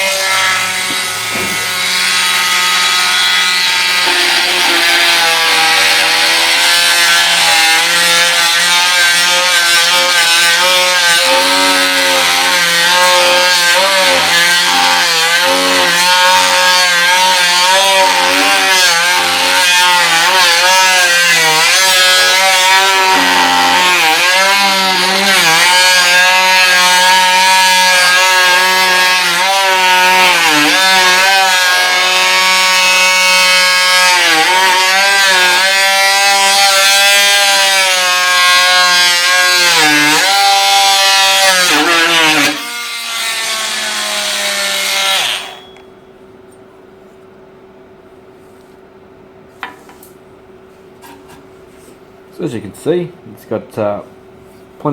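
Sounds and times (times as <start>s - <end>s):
oscillating multi-tool cutting wood: 0.0s - 45.9s.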